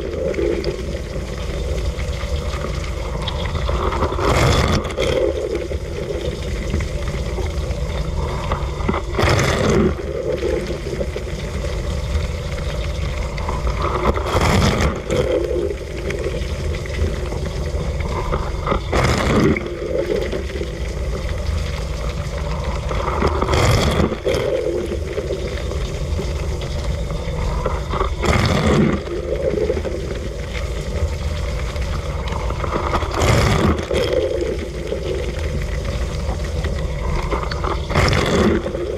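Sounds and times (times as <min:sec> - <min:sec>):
water spraying and splashing: 0:00.0 - 0:38.9.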